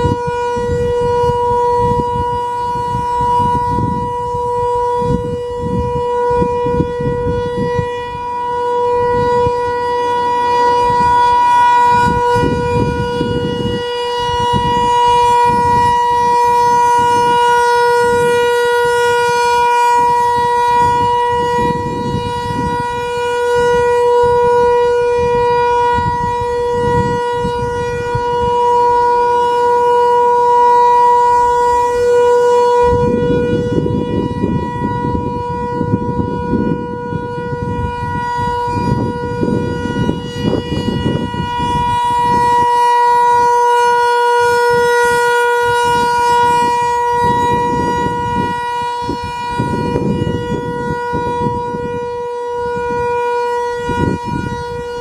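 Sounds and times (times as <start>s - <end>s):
warning siren steady tone: 0.0s - 55.0s
wind buffeting microphone: 0.0s - 55.0s.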